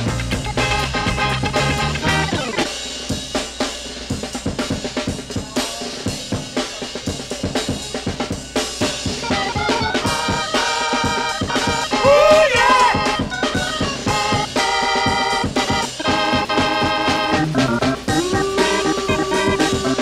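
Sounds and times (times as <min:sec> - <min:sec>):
drum kit snare and kick: 0:00.0 - 0:20.0
funk soul band: 0:00.0 - 0:20.0.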